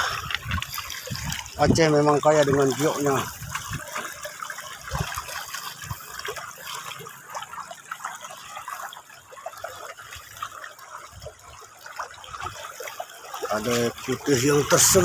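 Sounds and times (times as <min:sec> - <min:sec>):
stream babbling over pebbles: 0:00.0 - 0:15.0.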